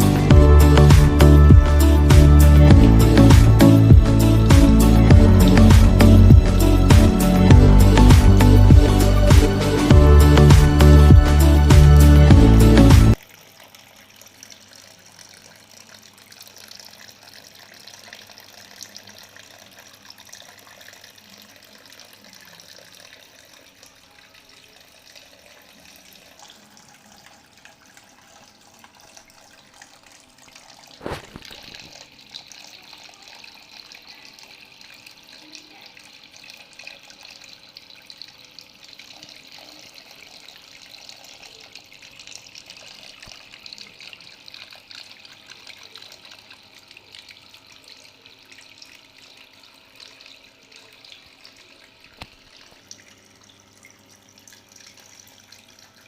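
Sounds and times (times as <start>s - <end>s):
fountain water trickling: 0.0s - 56.0s.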